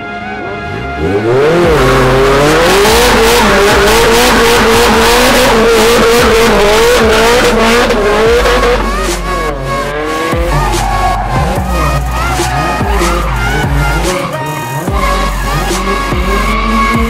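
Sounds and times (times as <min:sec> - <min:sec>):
car engine at high revs: 0:00.5 - 0:17.0.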